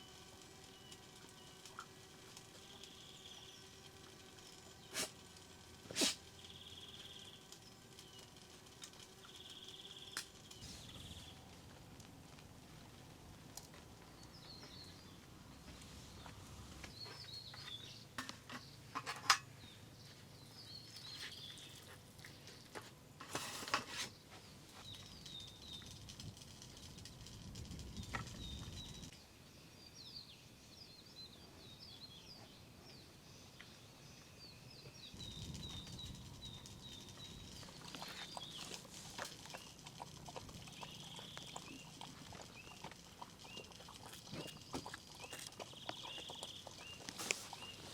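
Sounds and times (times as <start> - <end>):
small birds chirping: 0.0 - 5.4, 6.0 - 12.2, 12.9 - 18.9, 19.5 - 22.7, 23.9 - 47.9
faint outdoor background noise: 0.0 - 47.9.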